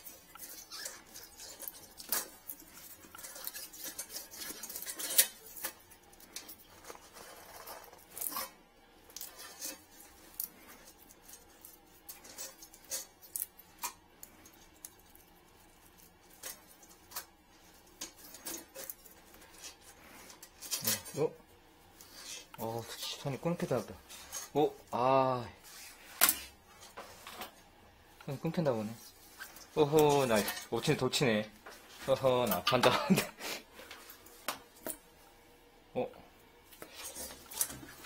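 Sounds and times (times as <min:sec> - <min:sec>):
metal wires clicking and scraping: 0:00.0 - 0:21.3, 0:21.9 - 0:25.0, 0:28.2 - 0:35.1, 0:36.8 - 0:38.0.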